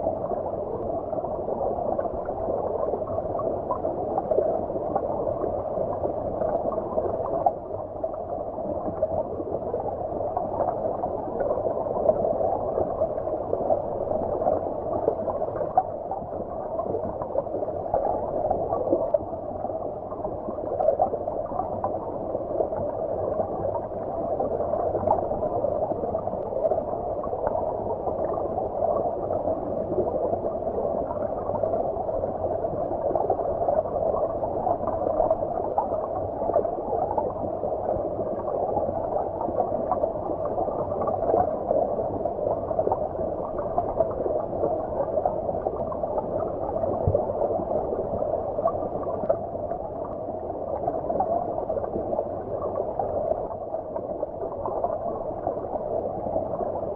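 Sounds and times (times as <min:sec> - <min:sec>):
muffled underwater stream rush: 0:00.0 - 0:56.9.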